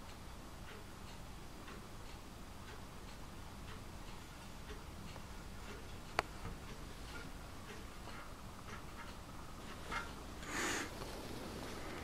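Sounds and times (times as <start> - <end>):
clock ticking: 0.0 - 10.5.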